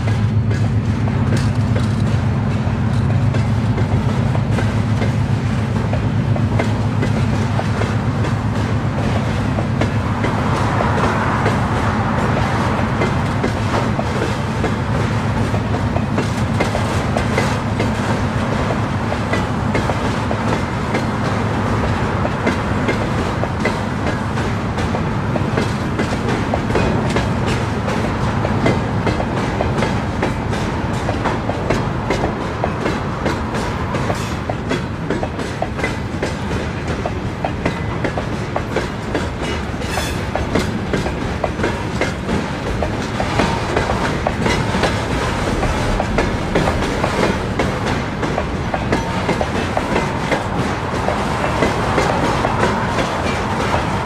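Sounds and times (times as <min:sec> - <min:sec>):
wheels clicking over rail joints: 0:00.0 - 0:21.3, 0:21.9 - 0:54.0
rumble of train wagons: 0:00.0 - 0:54.0.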